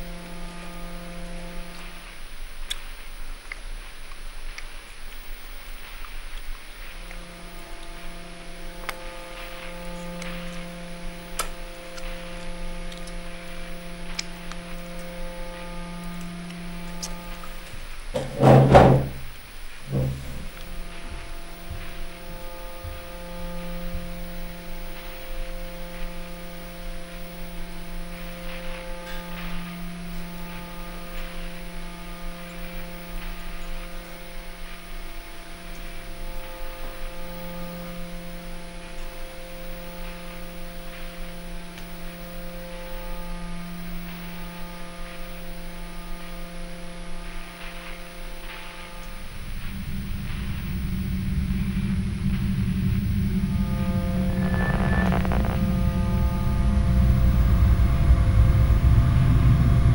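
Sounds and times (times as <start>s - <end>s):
droning hum of held tones: 0.0s - 59.9s.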